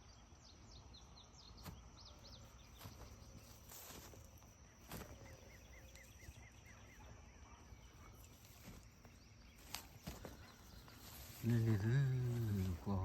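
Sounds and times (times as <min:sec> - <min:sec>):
bird chirping: 0:00.0 - 0:03.8, 0:04.6 - 0:13.0.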